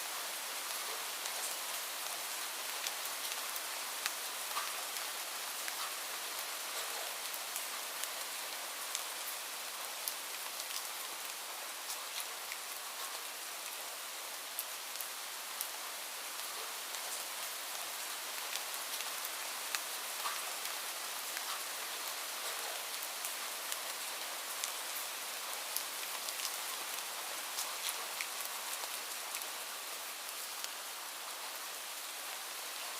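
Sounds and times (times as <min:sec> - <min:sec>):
rain hiss: 0:00.0 - 0:32.9
raindrops striking close by: 0:00.0 - 0:32.9.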